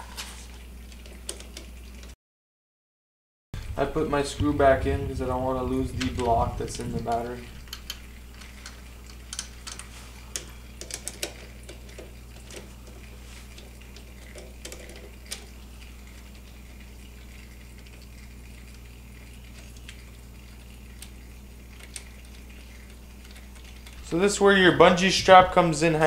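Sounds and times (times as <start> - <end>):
steady low hum: 3.6 - 26.0.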